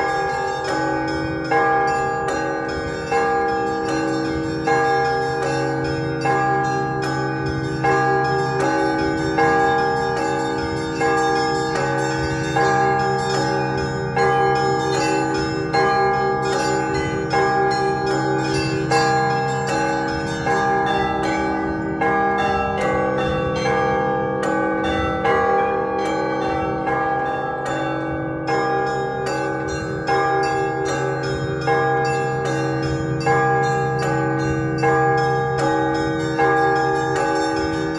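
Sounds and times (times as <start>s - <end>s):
larger bells ringing: 0.0s - 37.9s.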